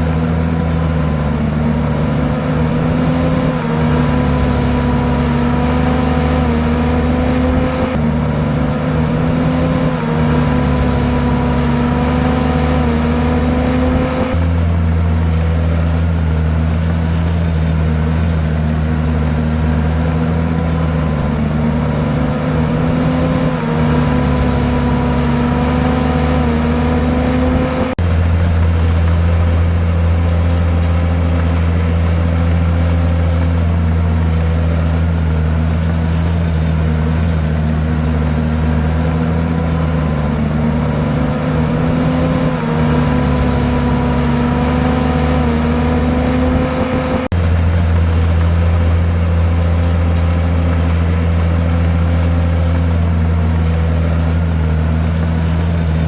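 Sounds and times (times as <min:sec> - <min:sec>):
bulldozer diesel engine under load: 0:00.0 - 0:56.0
bulldozer pushing rock and soil: 0:00.0 - 0:56.0.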